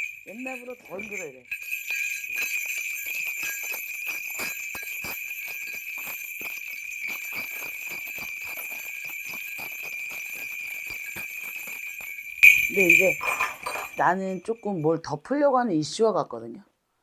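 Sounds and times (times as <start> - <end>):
small bells jingling: 0.0 - 15.4.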